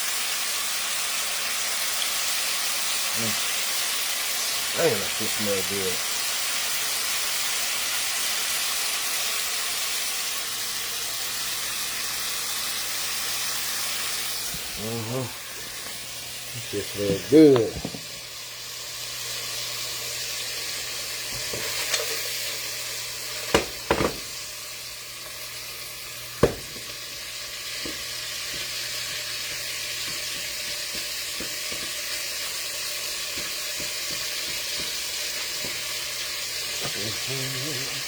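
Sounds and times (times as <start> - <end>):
meat sizzling in a frying pan: 0.0 - 38.0.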